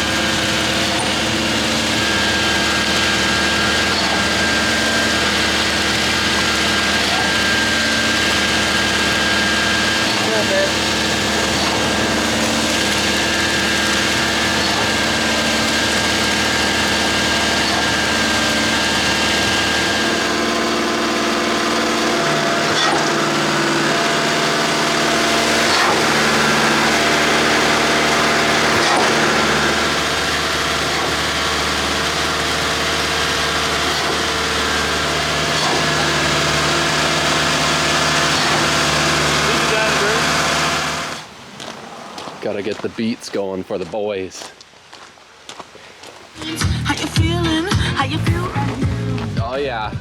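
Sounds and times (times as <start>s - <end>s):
engine running: 0.0s - 44.5s, 46.2s - 50.0s.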